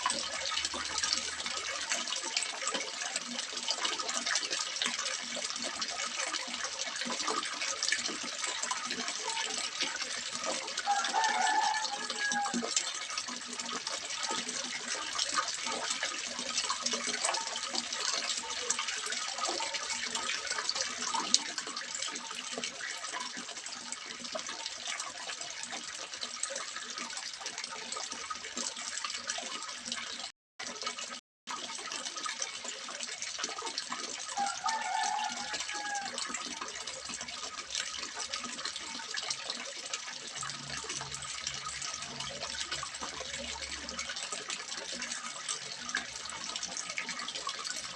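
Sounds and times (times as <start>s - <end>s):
water splashing into pond: 0.0s - 47.9s.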